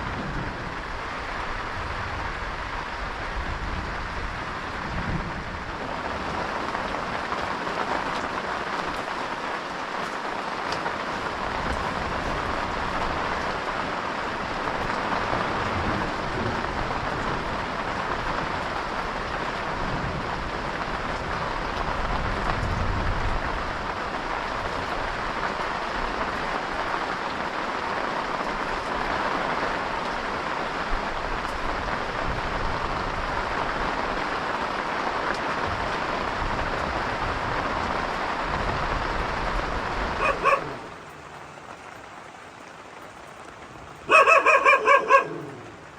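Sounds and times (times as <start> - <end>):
heavy rain hissing: 0.0 - 22.4, 23.0 - 45.9.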